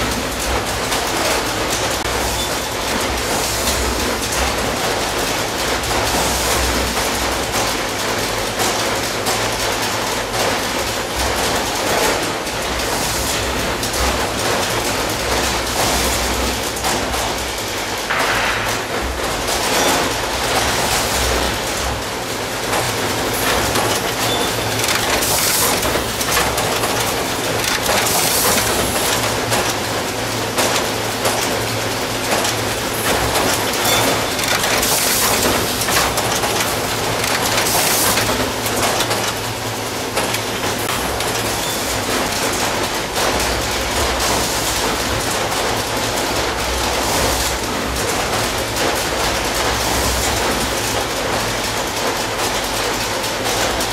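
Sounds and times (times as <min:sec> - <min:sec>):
machinery clattering: 0:00.0 - 0:53.9.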